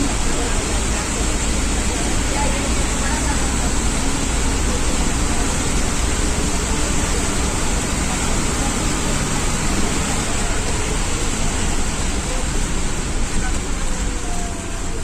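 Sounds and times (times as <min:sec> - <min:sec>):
bus diesel engine drone: 0:00.0 - 0:15.0
heavy rain hiss: 0:00.0 - 0:15.0.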